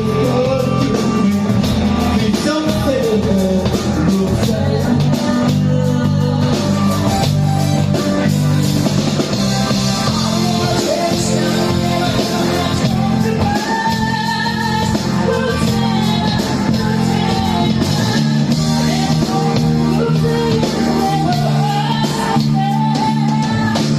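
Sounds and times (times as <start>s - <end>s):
person singing: 0.0s - 8.5s, 9.6s - 23.9s
held low bass notes: 0.0s - 23.9s
rock band playing: 0.0s - 23.9s.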